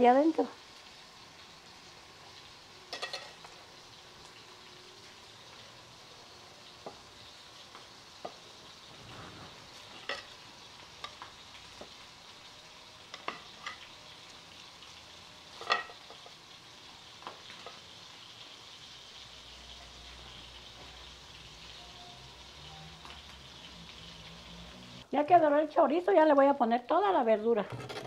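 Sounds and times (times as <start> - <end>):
sausage sizzling in hot oil: 0.0 - 27.6.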